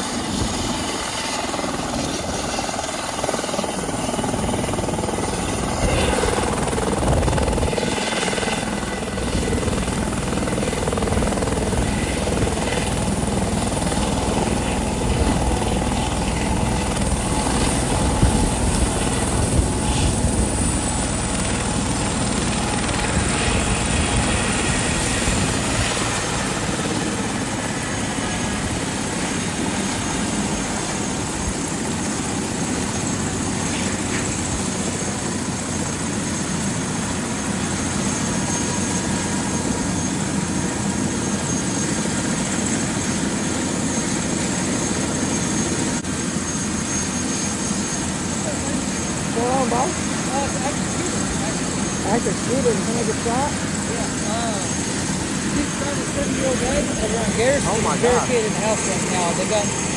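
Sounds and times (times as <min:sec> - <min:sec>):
helicopter rotor and engine: 0:00.0 - 0:59.9
turbine whine: 0:00.0 - 0:59.9.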